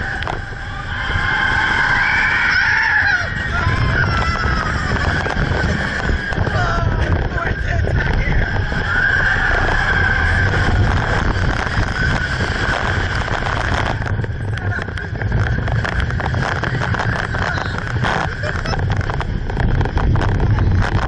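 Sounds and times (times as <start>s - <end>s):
vehicle engine rumbling: 0.0s - 21.0s
wind on microphone: 0.0s - 21.0s.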